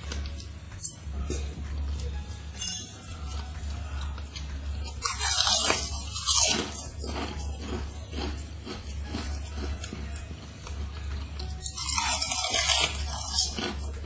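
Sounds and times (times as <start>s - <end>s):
person chewing and crunching: 0.0s - 14.0s.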